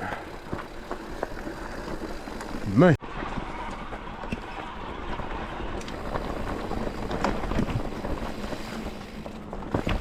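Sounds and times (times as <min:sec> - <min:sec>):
bike rattling over rocks: 0:00.0 - 0:10.0.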